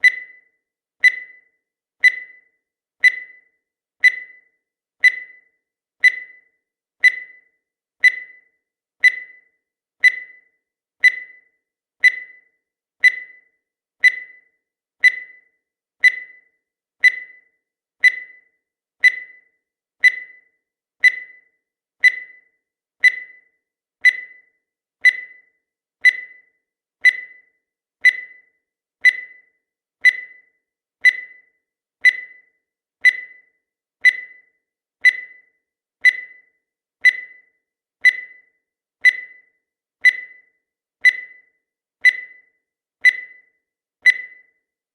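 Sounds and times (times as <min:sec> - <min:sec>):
electronic timer ticks: 0:00.0 - 0:44.8.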